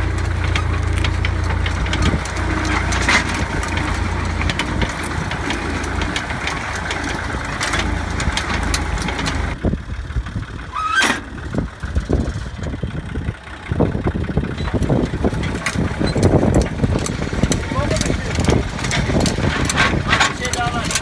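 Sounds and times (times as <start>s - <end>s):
tractor engine with clatter: 0.0s - 21.0s
uneven rumbling: 0.0s - 21.0s.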